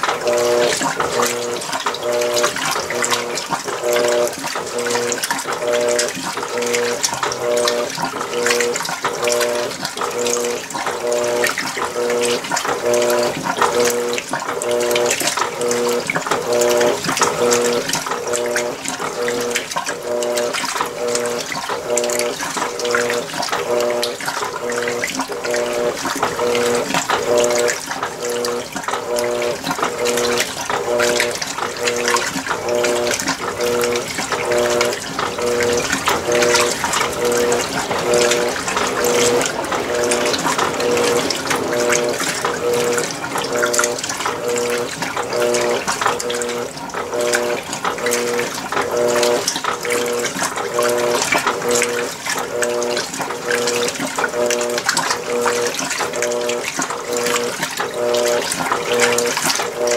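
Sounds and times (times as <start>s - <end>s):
washing machine motor hum: 0.0s - 59.9s
water sloshing in washing machine: 0.0s - 59.9s.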